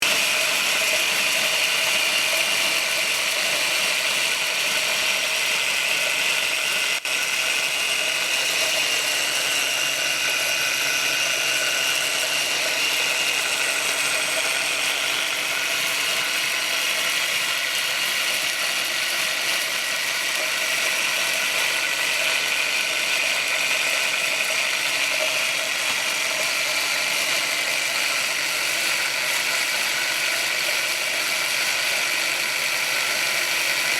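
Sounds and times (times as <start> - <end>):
grinder whirring: 0.0 - 33.9.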